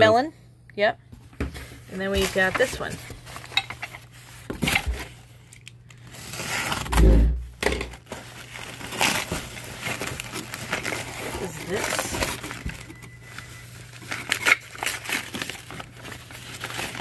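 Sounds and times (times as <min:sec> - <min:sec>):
paper and tape crinkling and tearing: 0:02.0 - 0:17.0.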